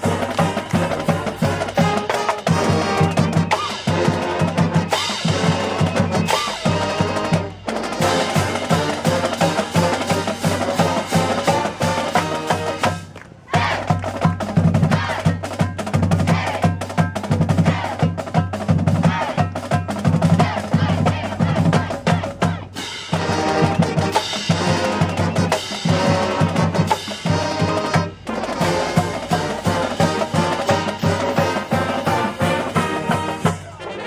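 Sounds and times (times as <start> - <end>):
brass section playing: 0.0 - 14.0, 20.3 - 34.0
snare and bass drums: 0.0 - 33.8.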